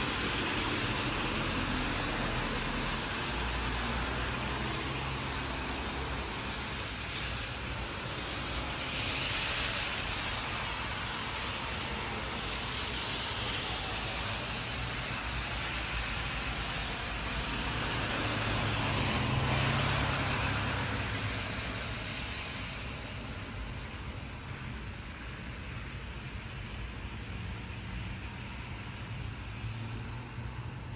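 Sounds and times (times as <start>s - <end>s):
car passing with low rumble: 0.0s - 30.9s
tyres hissing on wet road: 0.0s - 30.9s.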